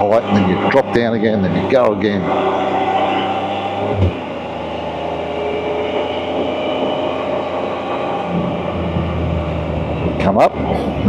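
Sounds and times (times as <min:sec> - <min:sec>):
road and wind noise: 0:00.0 - 0:11.0
three-wheeler engine running: 0:00.0 - 0:11.0.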